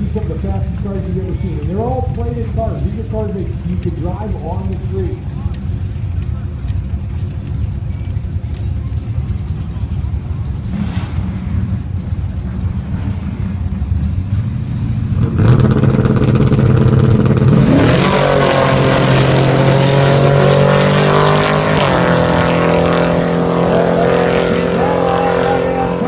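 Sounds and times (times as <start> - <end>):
truck engine revving and accelerating: 0.0 - 26.0.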